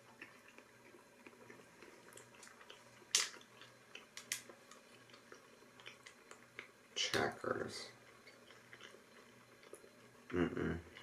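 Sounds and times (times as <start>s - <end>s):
chewing: 0.0s - 7.0s, 7.9s - 11.0s.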